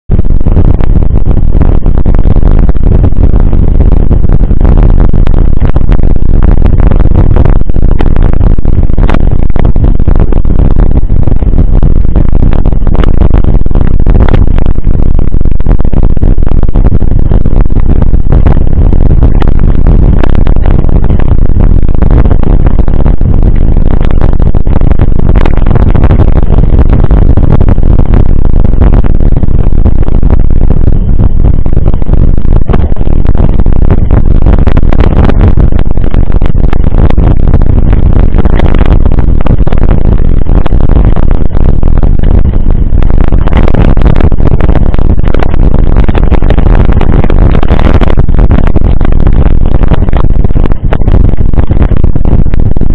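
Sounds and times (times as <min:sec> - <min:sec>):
wind rumble on microphone: 0:00.0 - 0:52.9.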